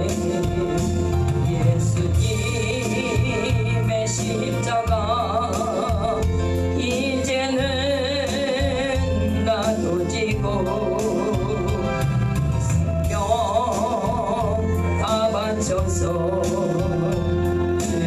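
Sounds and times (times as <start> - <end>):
bass accompaniment: 0.0 - 18.0
person singing with vibrato: 0.0 - 18.0.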